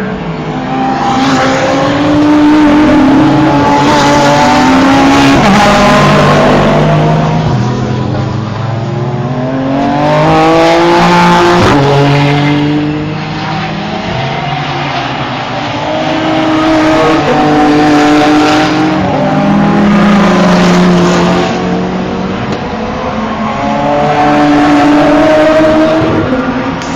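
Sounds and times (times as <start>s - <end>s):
race cars passing revving hard: 0.0s - 26.9s.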